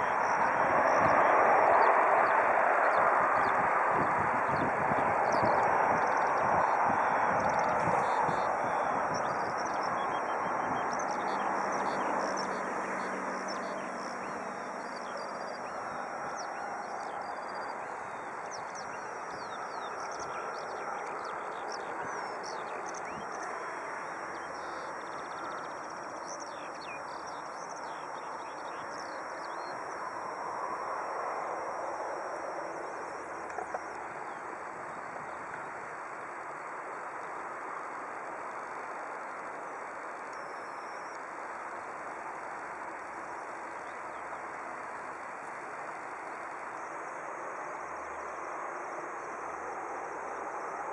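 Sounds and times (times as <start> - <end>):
distant jet engines rushing: 0.0 - 50.9.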